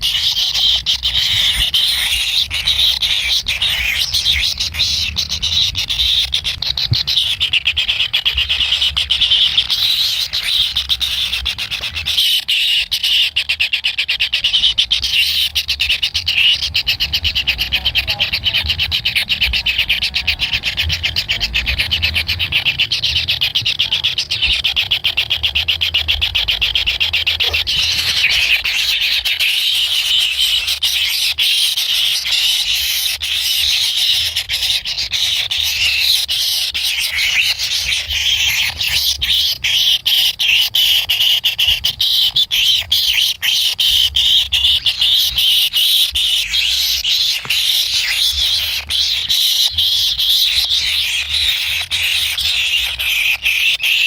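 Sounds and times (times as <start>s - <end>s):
bird chicks begging chatter: 0.0s - 54.0s.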